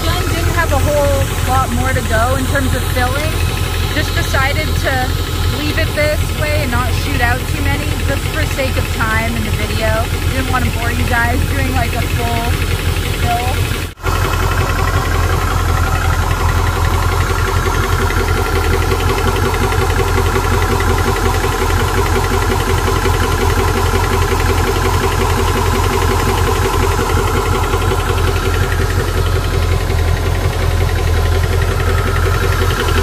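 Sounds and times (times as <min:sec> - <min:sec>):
air compressor pump pulsing: 0:00.0 - 0:33.0
cooling fans whirring: 0:00.0 - 0:33.0.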